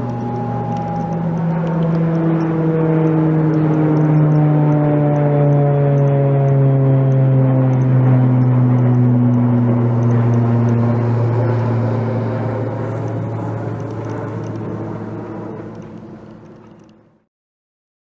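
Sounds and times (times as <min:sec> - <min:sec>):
jet engines passing: 0:00.0 - 0:17.1.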